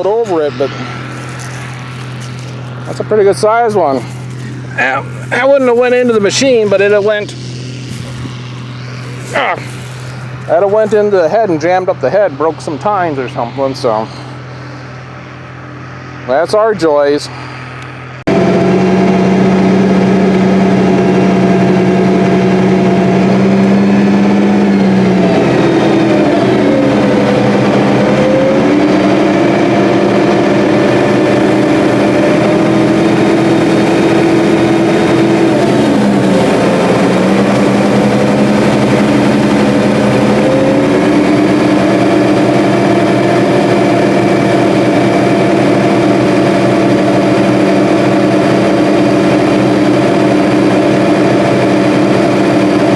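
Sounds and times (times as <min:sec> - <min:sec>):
combine harvester engine running: 0:00.0 - 0:52.9.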